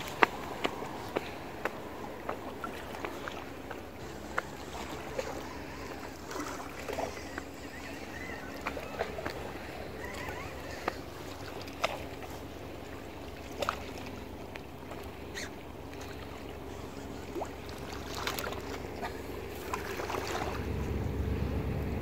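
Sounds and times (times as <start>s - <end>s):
water at the shoreline: 0.0s - 22.0s.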